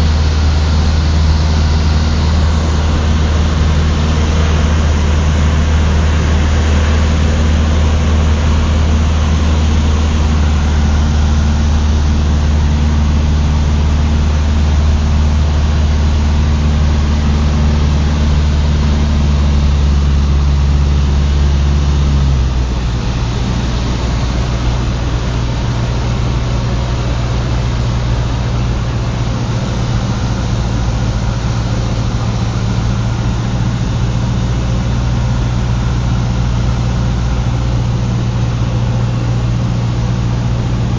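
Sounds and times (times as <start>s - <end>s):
airplane engine and propeller: 0.0s - 40.9s.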